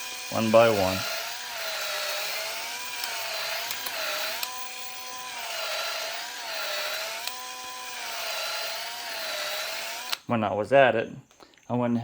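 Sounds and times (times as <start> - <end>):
electric drill motor whine: 0.0 - 10.3.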